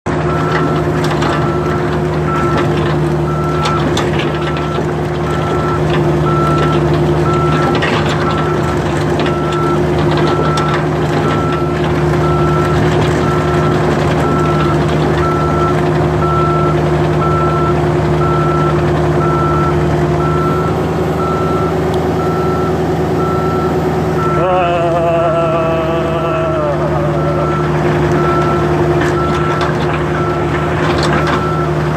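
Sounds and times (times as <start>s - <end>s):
diesel engine drone: 0.0s - 31.9s
backup alarm beeping: 0.3s - 2.7s, 4.5s - 31.9s.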